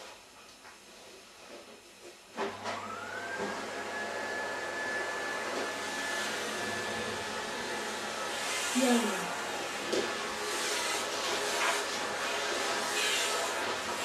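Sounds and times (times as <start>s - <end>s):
vacuum cleaner motor whining: 2.4s - 14.0s.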